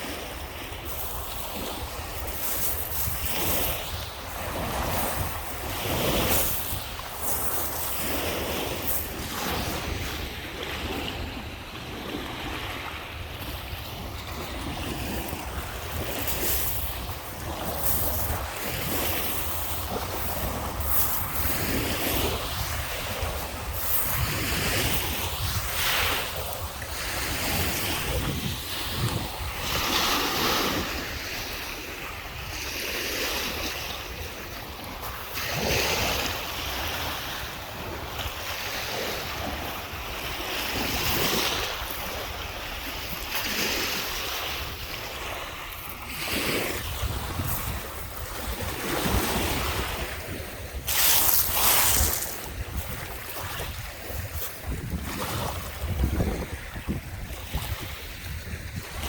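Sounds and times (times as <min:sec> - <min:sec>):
waves breaking on shore: 0:00.0 - 0:59.0
wind rumble on microphone: 0:00.0 - 0:59.0.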